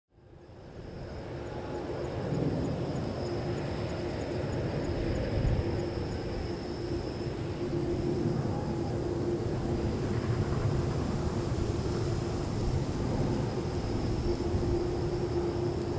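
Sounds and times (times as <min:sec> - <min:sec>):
jet engines rumbling: 0:00.2 - 0:15.9.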